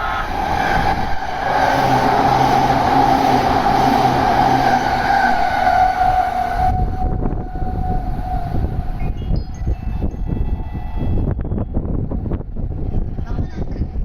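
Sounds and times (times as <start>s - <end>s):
steady tone: 0.0s - 11.2s
loud rushing rail noise: 0.0s - 14.0s
low rumble: 0.0s - 14.0s
train passing at high speed: 0.0s - 14.0s.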